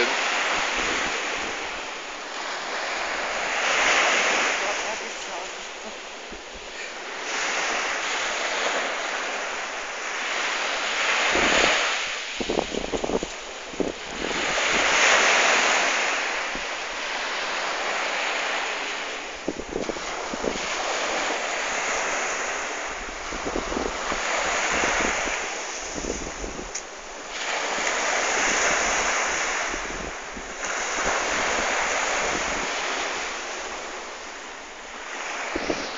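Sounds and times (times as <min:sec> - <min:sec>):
waves washing on a shore: 0:00.0 - 0:35.9
wind rumbling on the microphone: 0:00.0 - 0:35.9.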